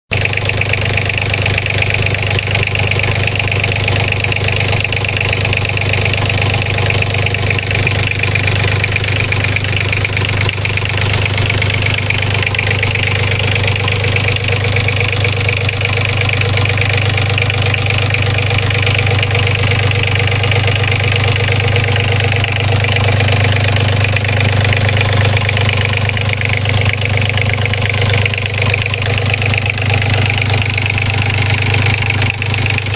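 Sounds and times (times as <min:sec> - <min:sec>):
boat engine idling: 0:00.1 - 0:32.9.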